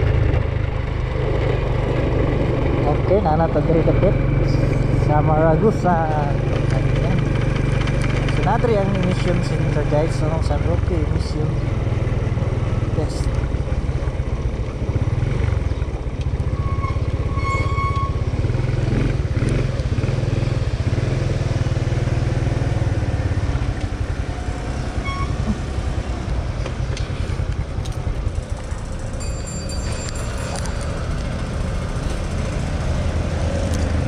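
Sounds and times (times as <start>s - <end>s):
scooter engine running: 0.0s - 17.4s, 18.2s - 34.0s.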